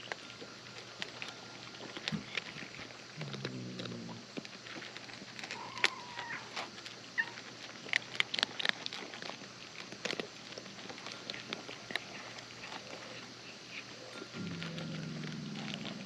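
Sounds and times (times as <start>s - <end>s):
cat chewing and licking: 0.0s - 16.0s.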